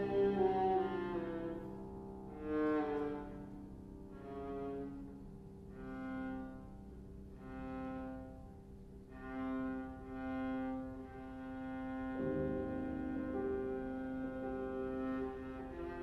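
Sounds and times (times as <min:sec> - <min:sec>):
viola playing long held notes: 0:00.0 - 0:16.0.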